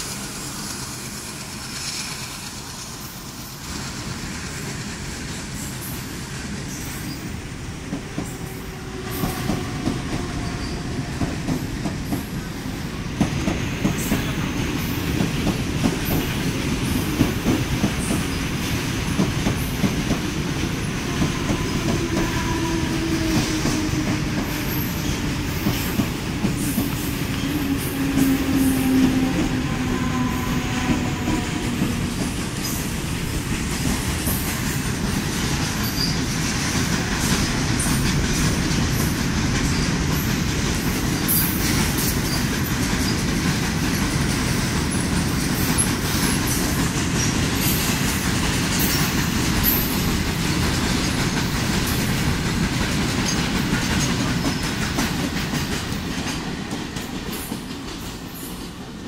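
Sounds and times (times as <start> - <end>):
train wheels clattering over rail joints: 7.8 - 58.9.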